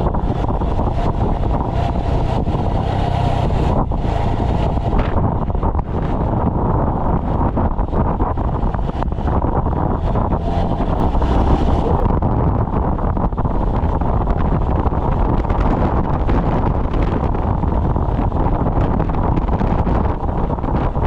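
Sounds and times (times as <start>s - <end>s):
motorcycle engine and road rumble: 0.0s - 21.0s
wind rushing over microphone: 0.0s - 21.0s.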